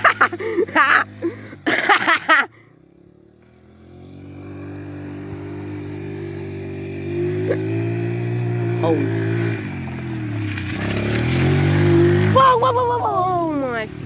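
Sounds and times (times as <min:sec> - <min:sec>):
small four-wheeler engine running: 0:00.0 - 0:14.0.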